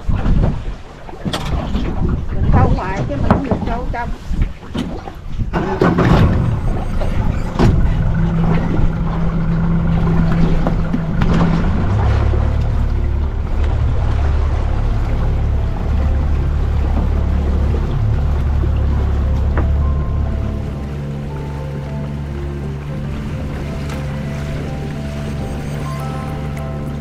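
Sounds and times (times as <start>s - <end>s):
boat motor running: 1.2s - 27.0s.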